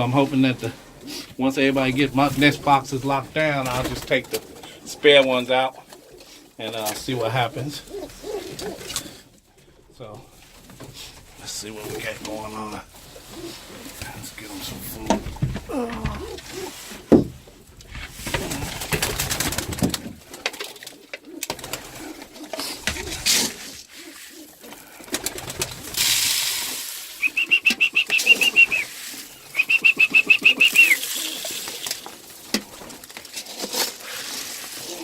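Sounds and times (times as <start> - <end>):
pigeons cooing: 0.0 - 26.2, 27.2 - 33.0
rustling: 0.0 - 35.0.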